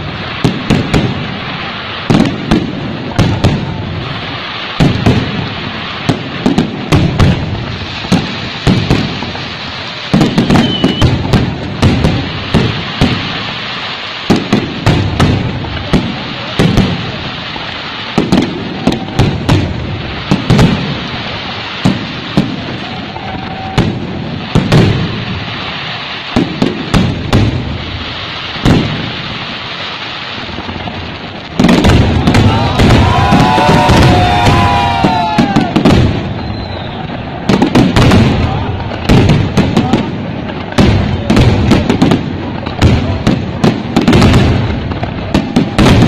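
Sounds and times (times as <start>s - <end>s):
fireworks bangs: 0.0s - 46.0s
fireworks crackle: 0.0s - 46.0s.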